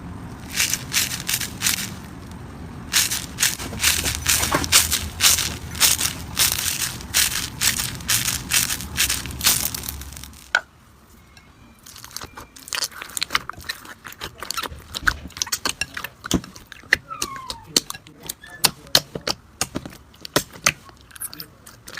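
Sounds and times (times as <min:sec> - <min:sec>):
crunchy slime crackling: 0:00.2 - 0:10.5, 0:11.8 - 0:21.9.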